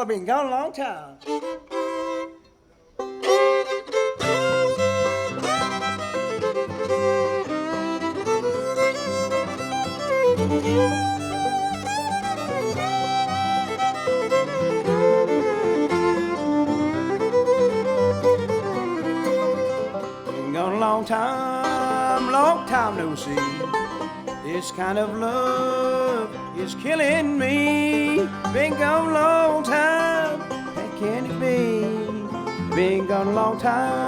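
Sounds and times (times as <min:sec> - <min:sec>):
bluegrass band with fiddle: 0:01.2 - 0:34.0.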